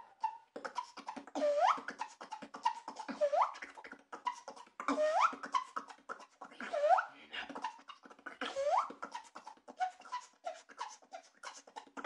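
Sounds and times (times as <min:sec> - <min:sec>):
beatboxing clicks: 0:00.0 - 0:12.0.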